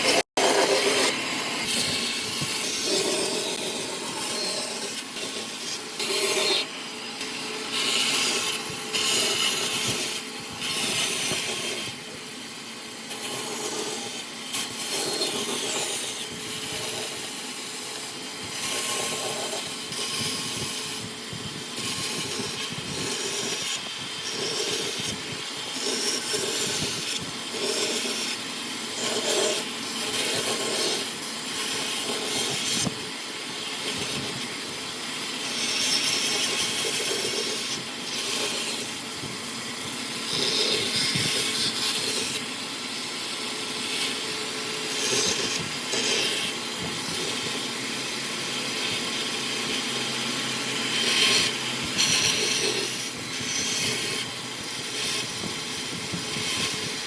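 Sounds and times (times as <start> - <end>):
tool rasping through wood: 0.0 - 57.0.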